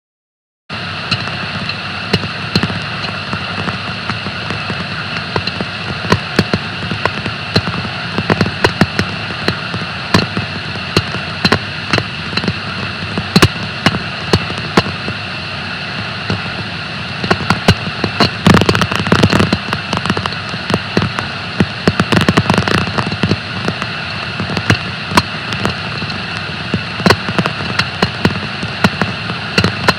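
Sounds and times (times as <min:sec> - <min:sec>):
steady hiss: 0:00.7 - 0:29.9.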